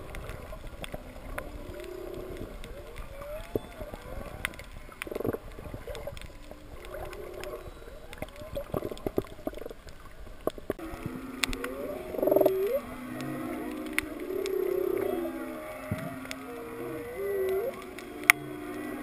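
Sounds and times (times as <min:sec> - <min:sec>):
reef crackle clicks: 0:00.0 - 0:19.0
whale song underwater: 0:00.0 - 0:19.0.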